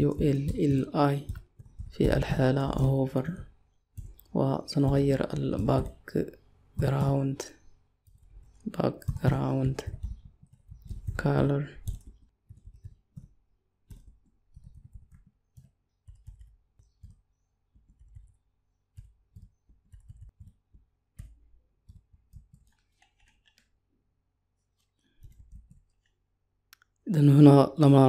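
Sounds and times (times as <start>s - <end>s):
keyboard typing: 0.0s - 23.8s, 24.6s - 26.2s.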